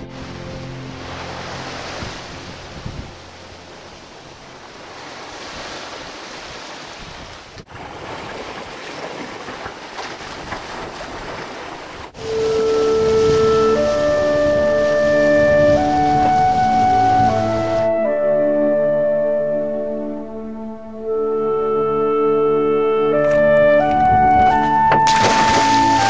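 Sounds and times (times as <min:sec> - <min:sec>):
wind on microphone: 0:00.0 - 0:18.1, 0:23.1 - 0:26.0
water rushing past boat: 0:00.0 - 0:26.0.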